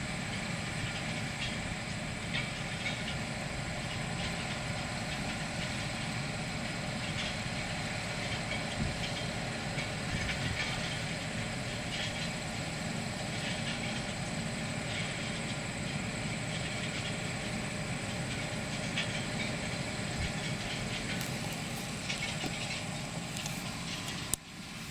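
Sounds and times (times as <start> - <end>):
machine engine drone: 0.0 - 24.9.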